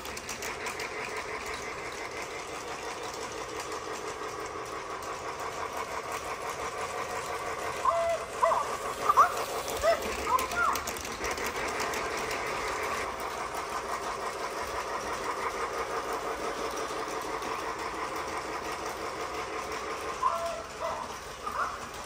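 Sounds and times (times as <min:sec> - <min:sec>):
toy train motor whirring: 0:00.0 - 0:22.0.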